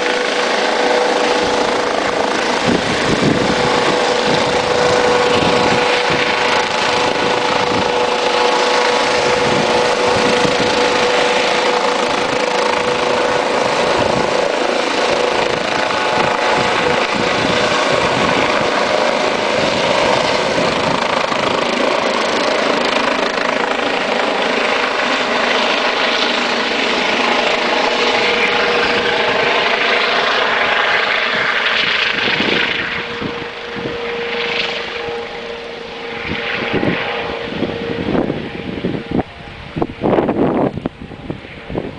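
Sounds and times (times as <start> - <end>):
helicopter turbine whine and rotor: 0.0 - 41.9.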